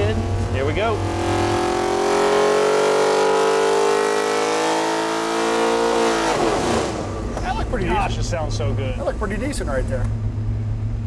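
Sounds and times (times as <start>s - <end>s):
engine revving under load: 0.0s - 10.3s.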